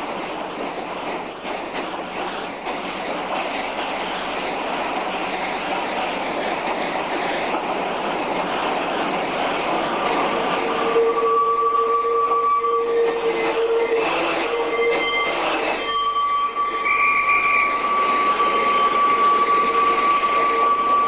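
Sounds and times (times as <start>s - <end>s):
tram wheels rattling on rails: 0.0s - 21.0s.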